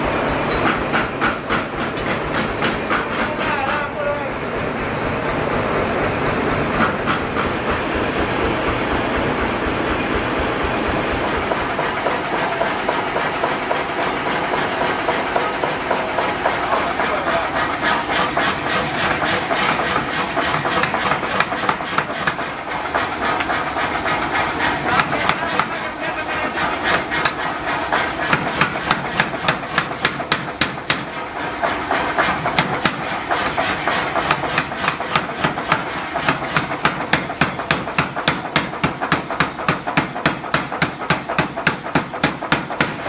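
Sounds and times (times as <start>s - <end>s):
forging shop clatter and rumble: 0.0s - 43.0s.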